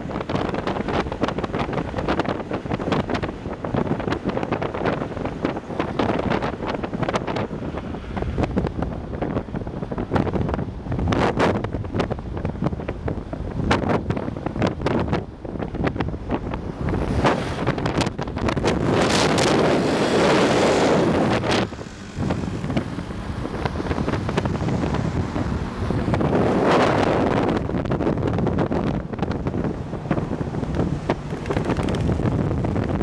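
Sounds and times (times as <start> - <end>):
vehicle and road rumble: 0.0 - 33.0
wind buffeting microphone: 0.0 - 33.0.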